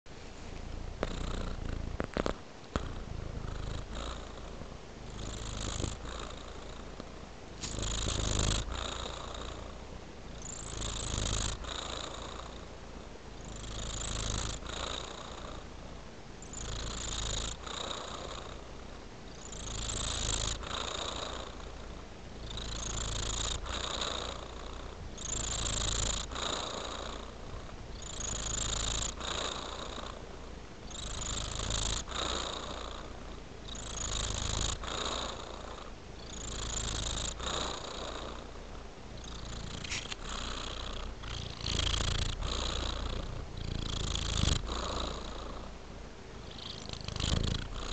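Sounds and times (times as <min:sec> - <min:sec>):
cat purring: 0:00.2 - 0:47.9.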